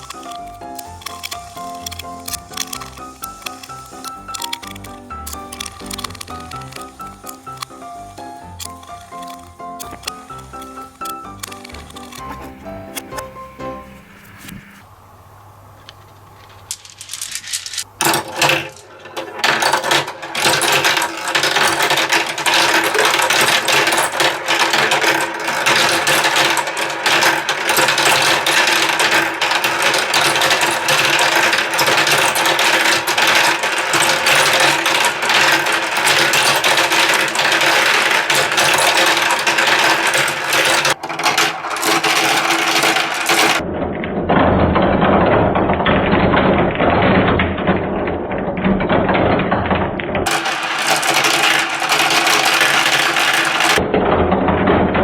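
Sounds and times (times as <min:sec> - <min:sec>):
marbles clattering down plastic run: 0:00.0 - 0:13.2, 0:16.7 - 0:43.7, 0:45.4 - 0:53.8.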